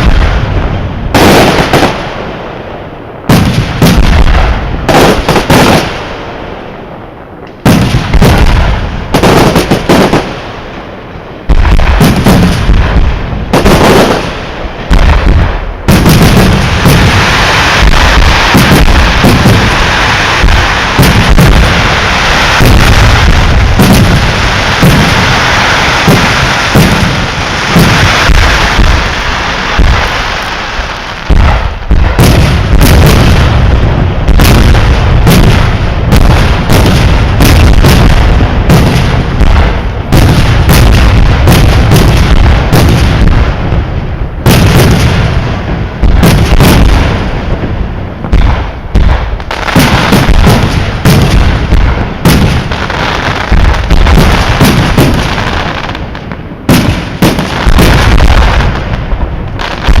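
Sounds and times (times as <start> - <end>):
fireworks bursts and booms: 0.0 - 60.0.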